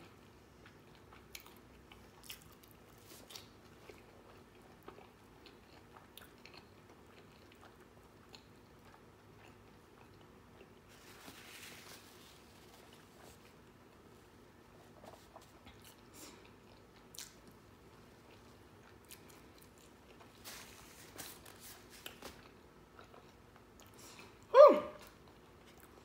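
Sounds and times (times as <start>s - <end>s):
person chewing wetly: 0.0s - 11.1s, 14.8s - 20.8s, 22.0s - 26.0s.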